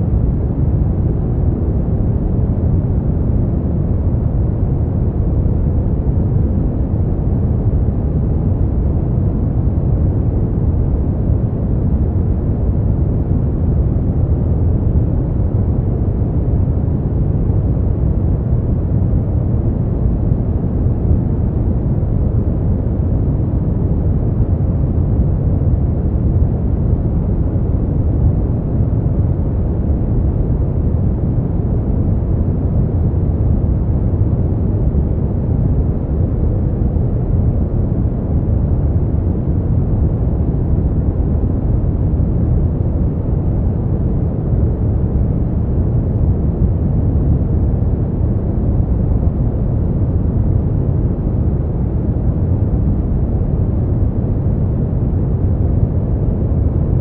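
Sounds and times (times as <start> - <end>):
brown noise: 0.0 - 57.0.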